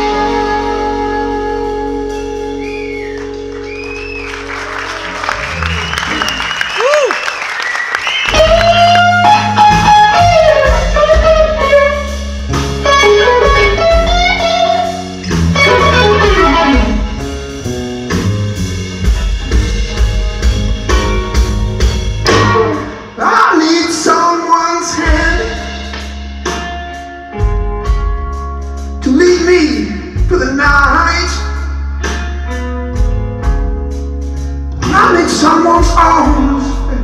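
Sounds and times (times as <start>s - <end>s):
electric bass guitar: 0.0s - 7.1s, 8.0s - 37.0s
electric guitar lead: 0.0s - 7.2s, 8.0s - 37.0s
drum kit: 0.0s - 37.0s.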